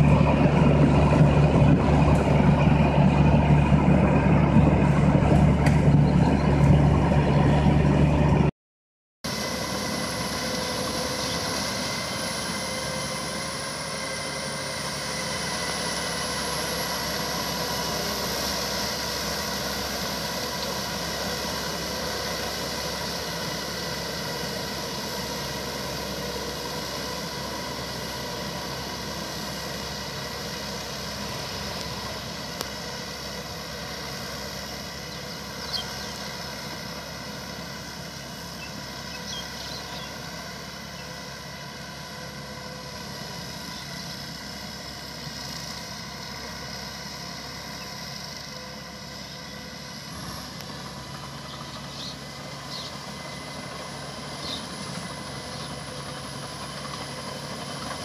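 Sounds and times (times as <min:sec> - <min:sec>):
tractor engine running: 0:00.0 - 0:08.5, 0:09.3 - 0:58.0.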